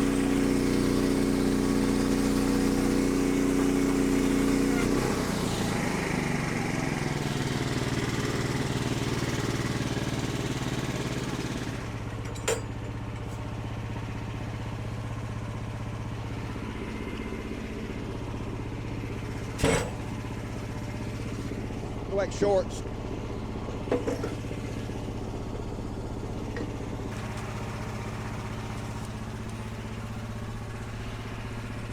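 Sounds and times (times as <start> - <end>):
sawmill gas engine running: 0.0 - 31.9.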